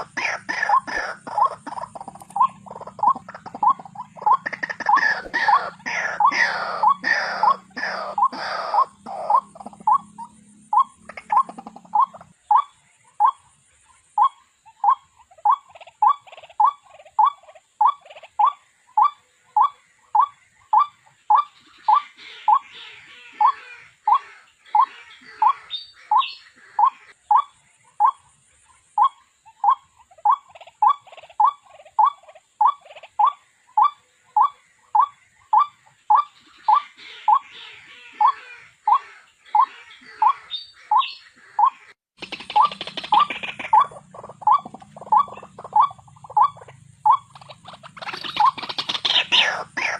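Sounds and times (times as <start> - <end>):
overlapping bird calls: 0.0 - 49.9.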